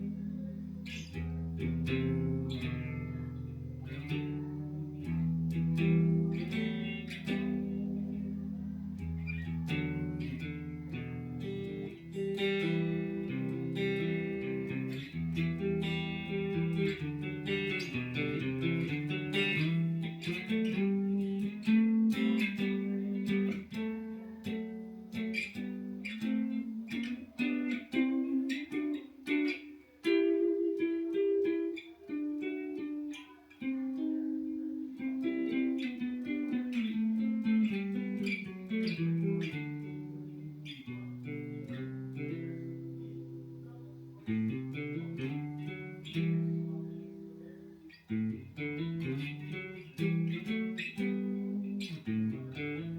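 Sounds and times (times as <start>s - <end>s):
guitar playing: 0.0s - 52.9s.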